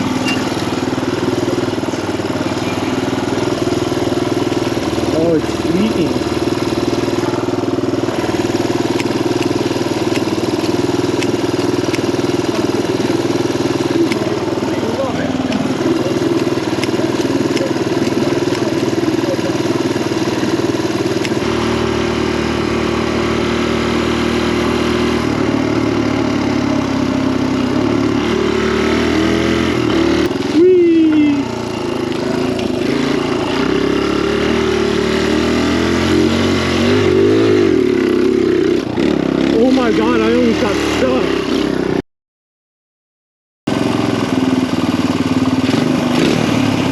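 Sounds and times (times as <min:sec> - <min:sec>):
dirt bike engine idling: 0:00.0 - 0:42.0, 0:43.7 - 0:46.9.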